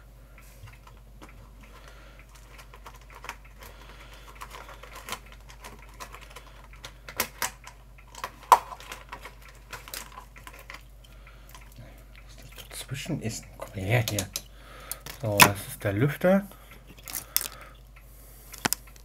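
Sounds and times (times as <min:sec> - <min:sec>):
parts clicking and knocking: 0:00.6 - 0:15.7, 0:16.7 - 0:19.0.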